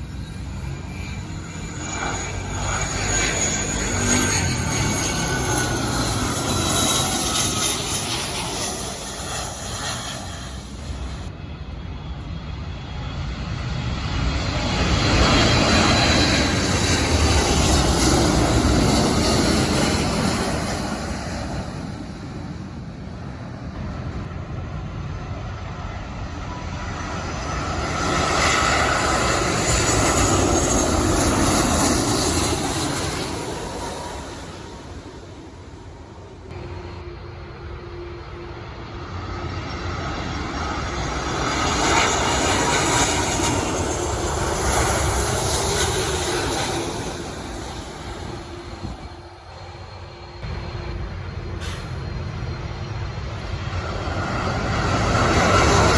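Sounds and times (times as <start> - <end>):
falling engine whine: 0.0 - 55.9
jet engines of passing aircraft: 0.0 - 55.9.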